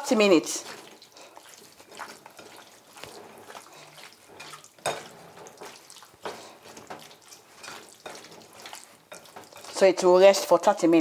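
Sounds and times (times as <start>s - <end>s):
small splashes and squelches: 0.4s - 9.9s.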